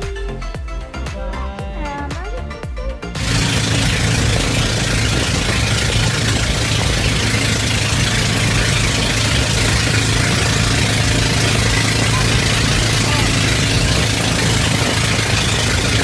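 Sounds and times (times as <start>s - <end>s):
boat engine humming: 3.2s - 16.0s.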